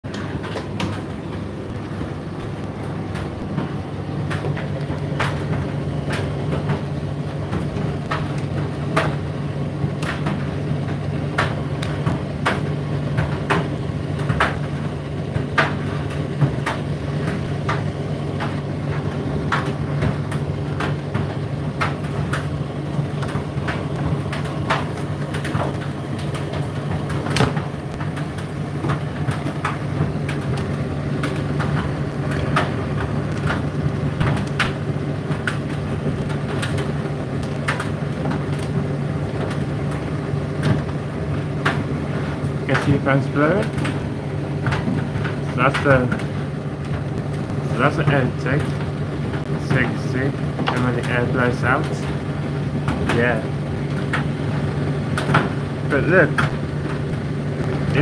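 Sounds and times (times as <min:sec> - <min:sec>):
tumble dryer humming: 0:00.0 - 0:58.0.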